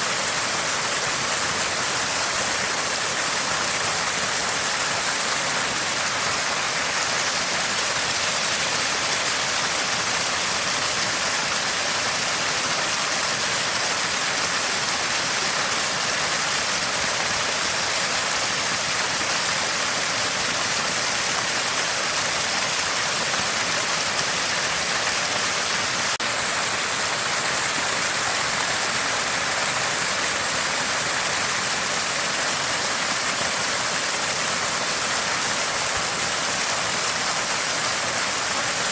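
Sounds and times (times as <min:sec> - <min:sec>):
spring water gushing and gurgling: 0:00.0 - 0:38.9.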